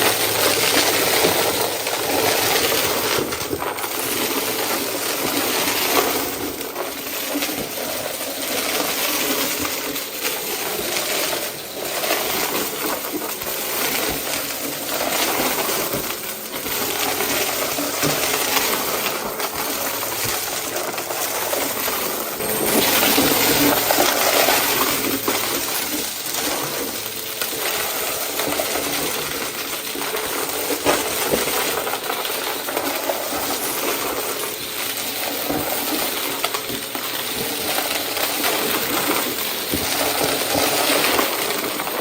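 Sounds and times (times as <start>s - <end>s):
vacuum cleaner sucking debris: 0.0s - 42.0s.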